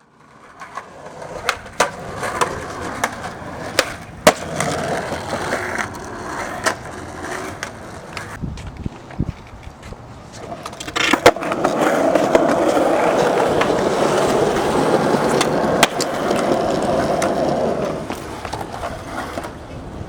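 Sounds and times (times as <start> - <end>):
skateboard clacks: 0.0 - 20.0
skateboard wheels rolling on pavement: 0.0 - 20.0.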